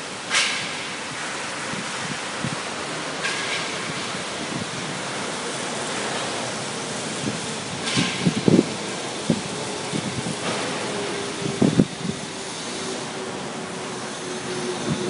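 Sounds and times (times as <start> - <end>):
rushing factory noise: 0.0 - 15.0.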